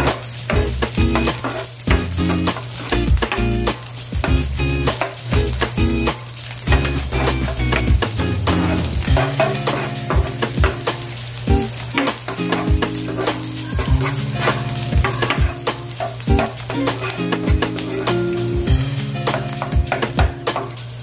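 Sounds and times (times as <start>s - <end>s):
spatula scraping and knocking pan: 0.0s - 3.5s, 6.6s - 20.9s
onion and garlic sizzling in oil: 0.0s - 21.0s.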